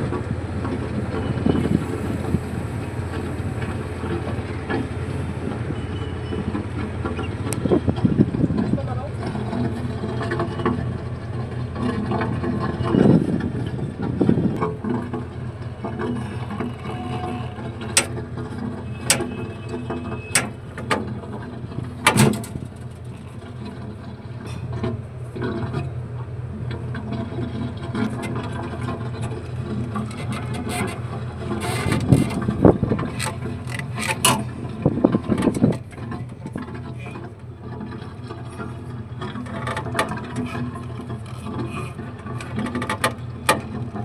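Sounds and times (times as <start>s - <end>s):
low machine hum: 0.0s - 44.0s.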